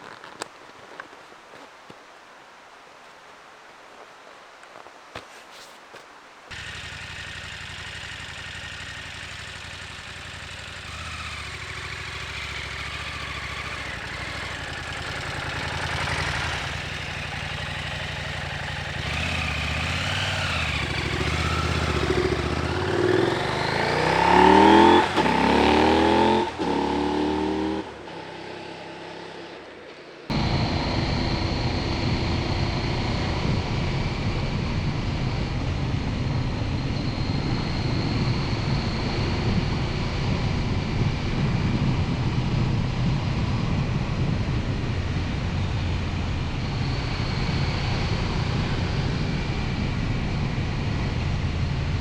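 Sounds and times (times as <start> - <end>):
motorcycle engine accelerating: 6.5 - 52.0.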